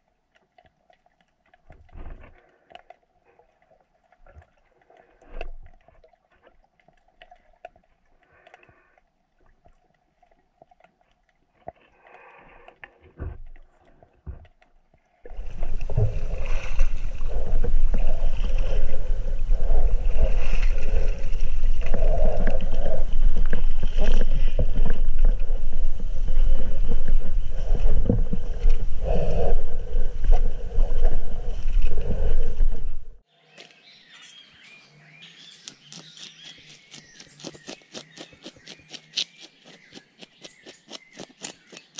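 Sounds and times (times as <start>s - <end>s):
faint underwater clicks: 0.0s - 33.8s.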